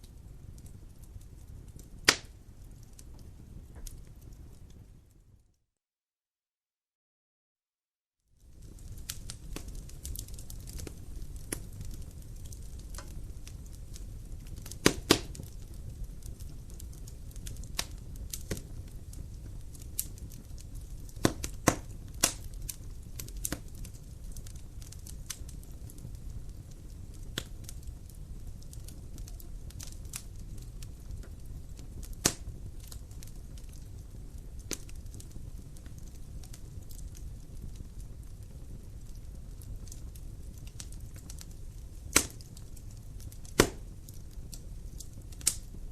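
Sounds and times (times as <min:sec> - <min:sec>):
low rumble of flames: 0:00.0 - 0:05.6, 0:08.2 - 0:45.9
wood fire crackling: 0:00.0 - 0:05.6, 0:08.2 - 0:45.9
sharp pops from burning logs: 0:00.1 - 0:04.7, 0:08.5 - 0:45.9.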